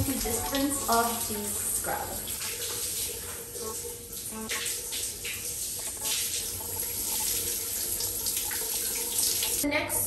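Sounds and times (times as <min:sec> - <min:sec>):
shower spray splashing on body: 0:00.0 - 0:09.6.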